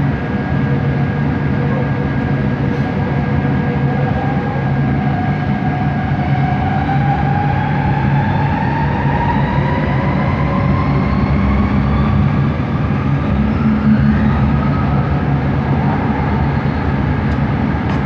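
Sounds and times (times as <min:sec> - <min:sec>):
train motor whine rising in pitch: 0:00.0 - 0:18.0
train running rumble: 0:00.0 - 0:18.0.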